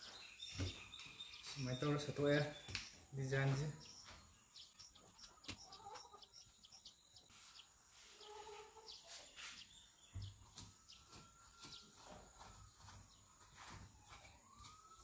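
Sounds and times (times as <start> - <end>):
bird chirps: 0.0 - 15.0.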